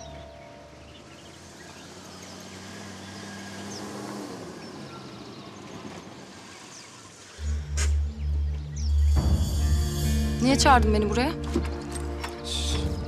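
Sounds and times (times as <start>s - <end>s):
birds chirping: 0.0s - 13.0s
vehicle noise: 0.0s - 13.0s.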